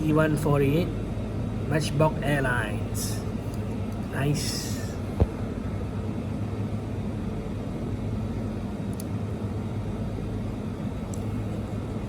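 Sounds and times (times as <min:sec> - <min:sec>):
faint hum: 0:00.0 - 0:12.0
low background rumble: 0:00.0 - 0:12.0.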